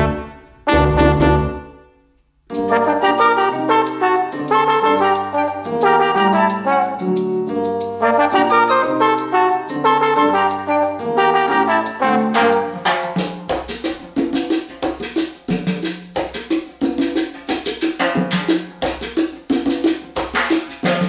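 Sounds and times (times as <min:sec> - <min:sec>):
instrumental music with steady beat: 0:00.0 - 0:21.0.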